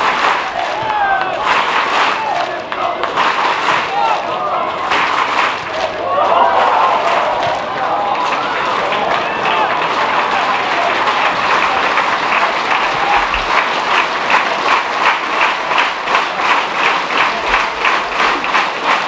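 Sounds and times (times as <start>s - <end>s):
crowd noise: 0.0s - 19.0s
crowd rhythmic clapping: 0.0s - 19.0s.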